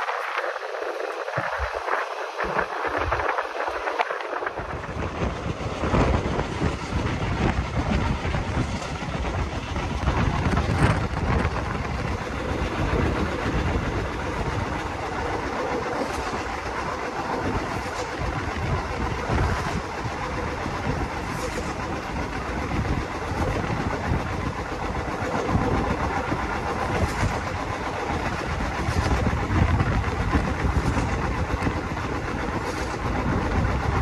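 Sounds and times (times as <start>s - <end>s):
train wheels rumbling: 0.0s - 34.0s
wheels clacking over rails: 2.5s - 34.0s.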